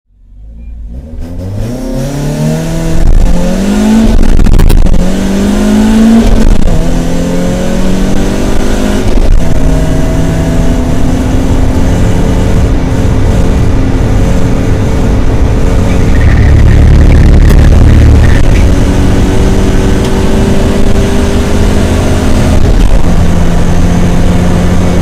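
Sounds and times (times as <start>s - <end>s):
race car engine accelerating: 0.8s - 25.0s.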